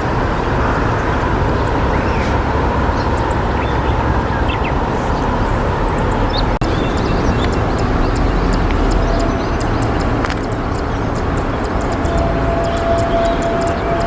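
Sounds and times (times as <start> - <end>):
river water rushing: 0.0 - 14.0
small birds chirping: 0.0 - 14.0.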